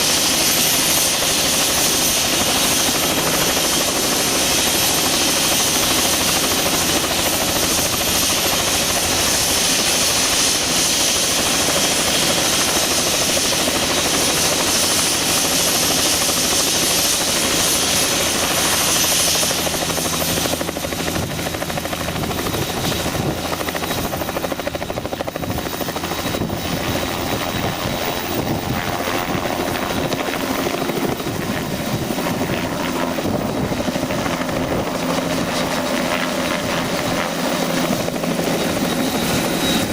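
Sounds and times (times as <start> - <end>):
helicopter engine and rotor: 0.0 - 39.9
high turbine whine: 0.0 - 39.9.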